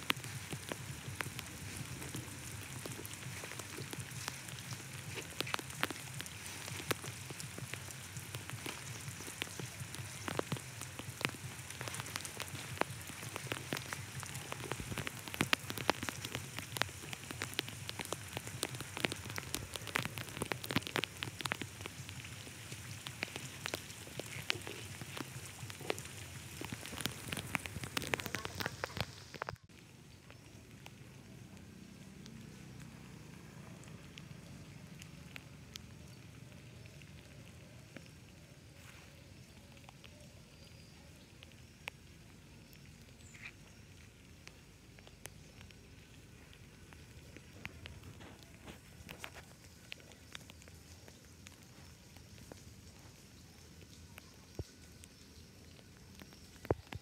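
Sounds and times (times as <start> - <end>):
rain on wet ground and water: 0.0 - 57.0.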